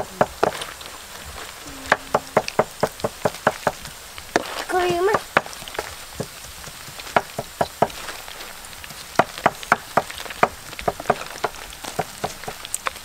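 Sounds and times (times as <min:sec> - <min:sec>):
faint steady hiss: 0:00.0 - 0:13.0
shrimp frying in hot oil: 0:00.0 - 0:13.0.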